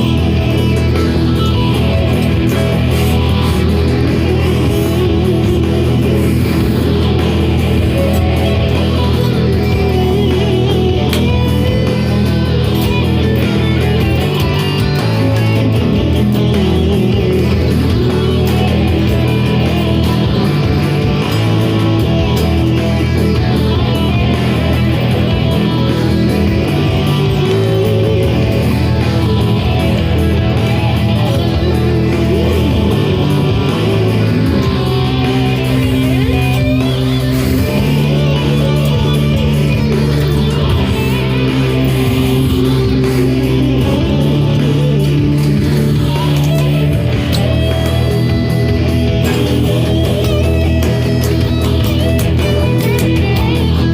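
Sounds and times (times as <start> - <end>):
electric guitar chords: 0.0 - 53.9.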